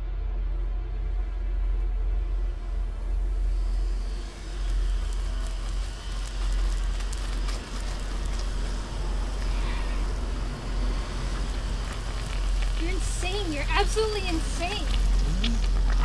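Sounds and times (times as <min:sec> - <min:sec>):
steady low rumble: 0:00.0 - 0:16.0
dense crackling and hiss: 0:00.1 - 0:16.0.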